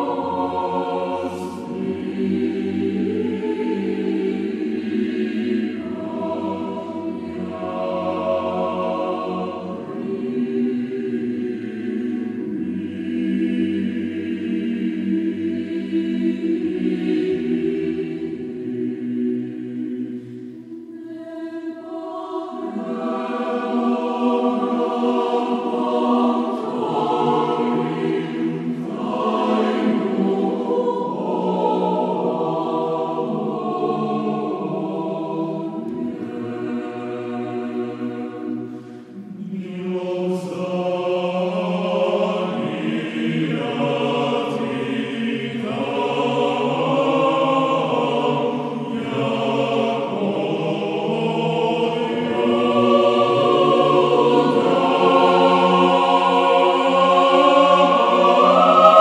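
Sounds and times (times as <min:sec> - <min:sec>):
church choir singing a chant: 0:00.0 - 0:59.0.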